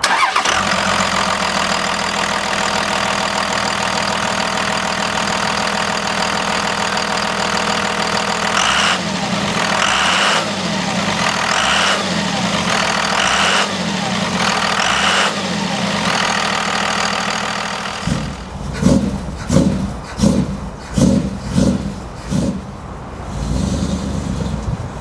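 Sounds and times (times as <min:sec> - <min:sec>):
diesel truck engine revving: 0:00.0 - 0:25.0.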